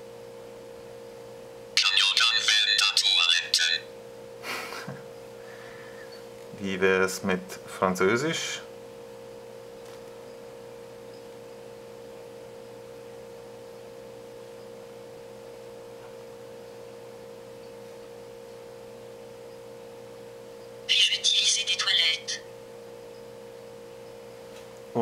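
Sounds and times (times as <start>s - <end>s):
steady pitched hum: 0.0s - 25.0s.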